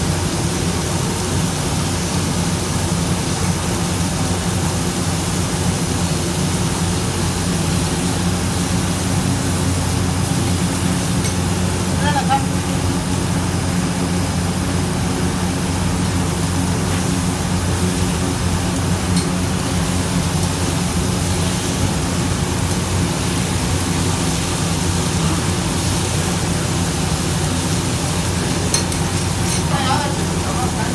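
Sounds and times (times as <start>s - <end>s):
fish frying on a griddle: 0.0s - 30.9s.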